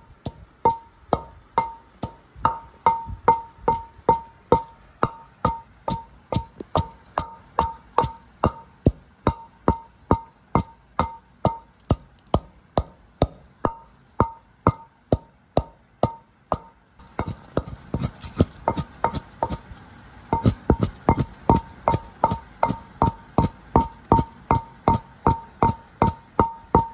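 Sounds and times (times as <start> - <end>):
wooden pestle pounding in clay mortar: 0.2 - 26.9.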